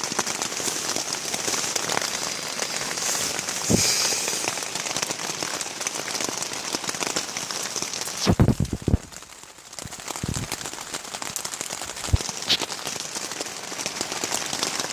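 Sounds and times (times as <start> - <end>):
rain drops ticking on surface: 0.0 - 14.9.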